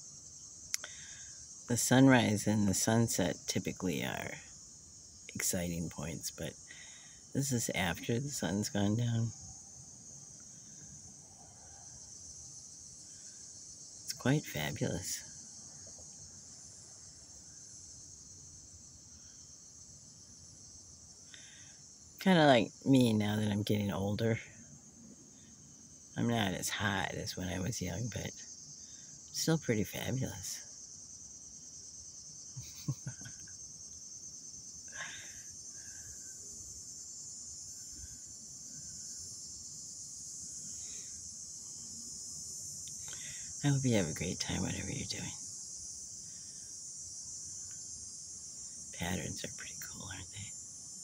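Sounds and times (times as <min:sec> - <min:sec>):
crickets chirping: 0:00.0 - 0:51.0
high-pitched insect chorus: 0:00.0 - 0:51.0.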